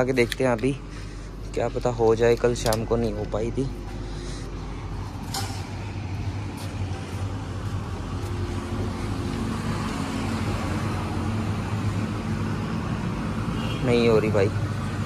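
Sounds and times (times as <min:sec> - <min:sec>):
road traffic noise: 0:00.0 - 0:15.0
vehicle engine humming: 0:00.0 - 0:15.0.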